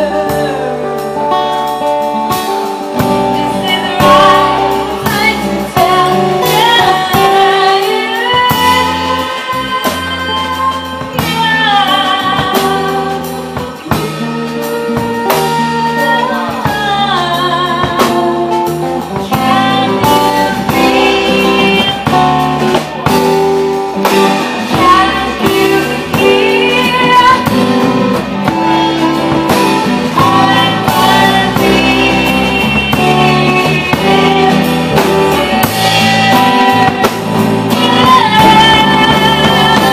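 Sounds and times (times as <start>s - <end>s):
acoustic guitar: 0.0s - 39.9s
drum kit: 0.0s - 39.9s.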